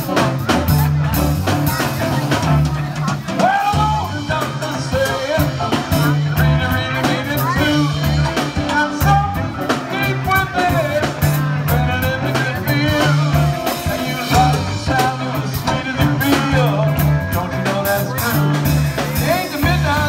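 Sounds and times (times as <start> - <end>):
live soul band: 0.0 - 20.0
man singing lead: 0.0 - 20.0.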